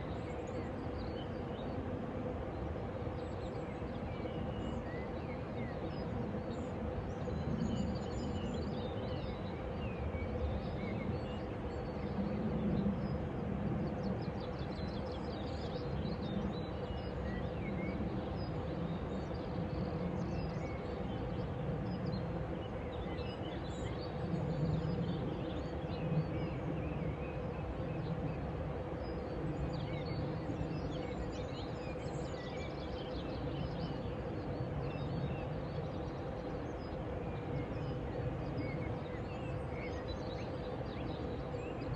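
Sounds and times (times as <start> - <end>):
faint constant hum: 0.0 - 41.9.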